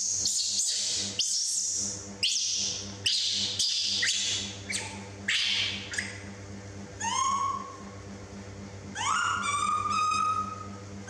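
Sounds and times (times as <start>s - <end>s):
baby monkey screaming: 0.0s - 6.2s, 7.0s - 7.9s, 8.9s - 10.8s.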